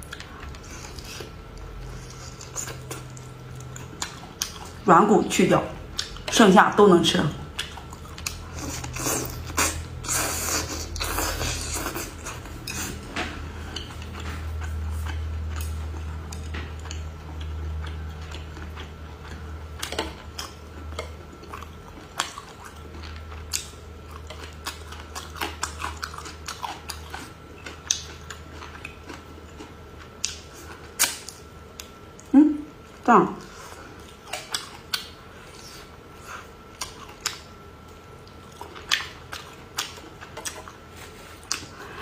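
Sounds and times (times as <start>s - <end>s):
person chewing food: 0.0s - 4.8s, 5.8s - 6.3s, 7.5s - 32.3s, 32.9s - 42.0s.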